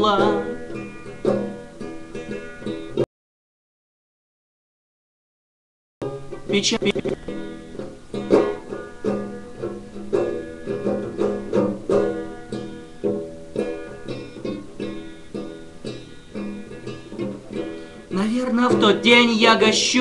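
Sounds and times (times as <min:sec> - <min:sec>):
plucked string instrument: 0:00.0 - 0:03.1, 0:06.0 - 0:20.0.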